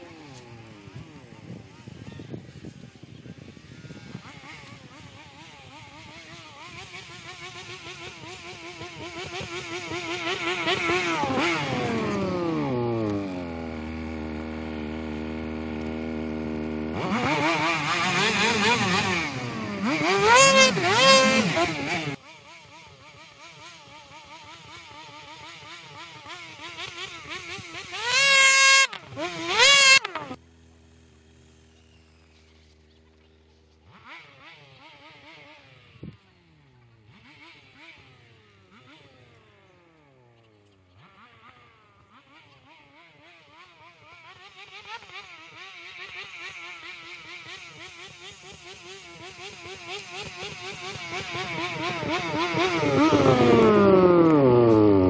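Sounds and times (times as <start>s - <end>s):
snowmobile engines: 0.0s - 55.0s
snowmobile revving hard: 3.6s - 30.4s, 33.8s - 39.8s, 41.0s - 55.0s.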